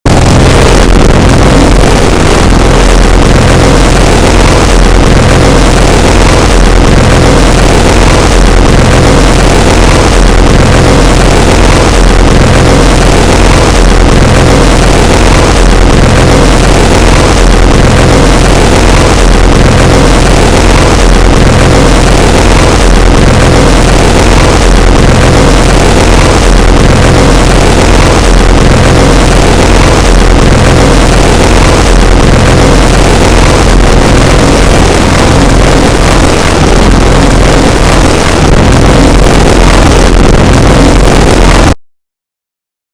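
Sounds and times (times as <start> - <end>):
deep hum: 0.0 - 41.8
electric zap crackling buzz: 0.1 - 41.8.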